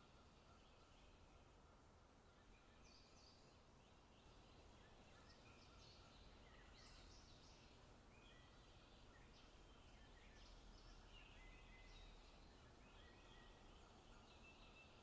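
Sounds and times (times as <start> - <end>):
faint steady background noise: 0.0 - 15.0
small birds chirping: 0.0 - 15.0.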